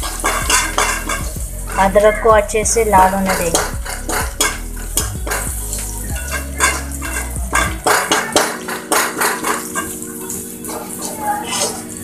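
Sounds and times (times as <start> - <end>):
metal spoon scraping a pan: 0.0 - 2.2, 3.1 - 12.0
frying in oil: 0.0 - 12.0.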